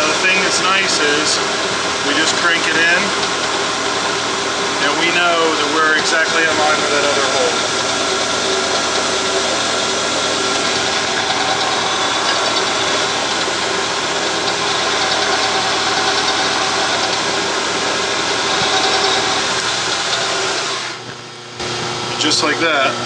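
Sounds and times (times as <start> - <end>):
milling machine drilling metal: 0.0 - 23.0.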